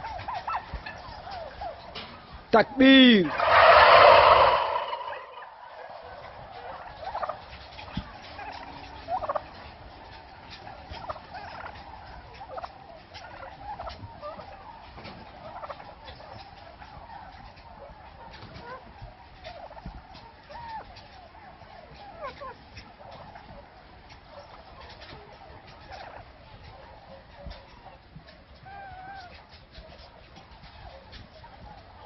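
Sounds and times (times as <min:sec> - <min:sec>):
turkeys gobbling: 0:00.0 - 0:32.0.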